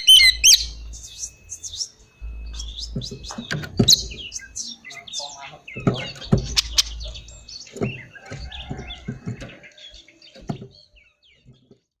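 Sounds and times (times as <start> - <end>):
bird singing whistles and chirps: 0.0 - 11.5.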